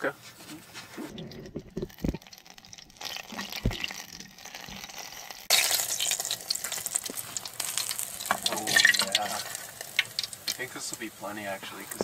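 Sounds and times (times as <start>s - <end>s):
dough deep-frying in oil: 0.4s - 12.0s
loud oil sizzle: 2.1s - 12.0s.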